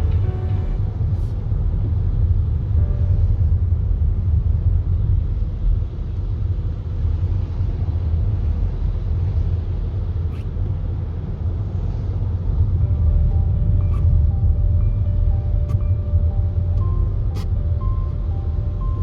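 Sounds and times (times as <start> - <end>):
car road rumble with tyre hiss: 0.0 - 19.0.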